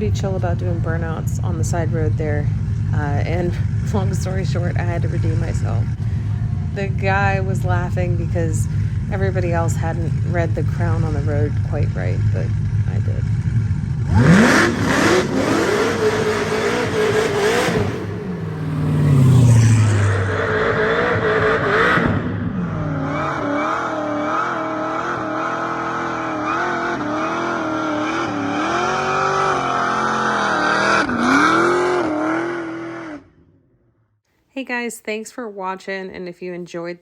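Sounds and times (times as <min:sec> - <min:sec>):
spinning tyres: 0:00.0 - 0:33.5
car engine revving hard: 0:00.1 - 0:33.5.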